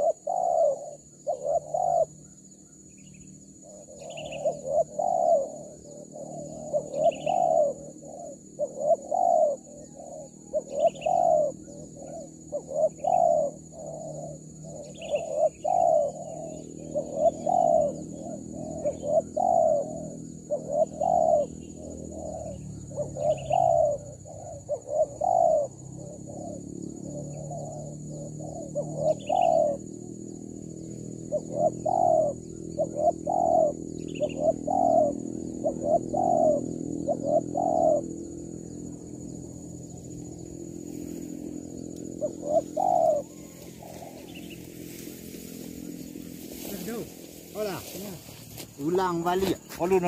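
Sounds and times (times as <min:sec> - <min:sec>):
dove cooing: 0:00.0 - 0:02.6, 0:03.3 - 0:50.0
steady high-pitched whine: 0:00.0 - 0:50.0.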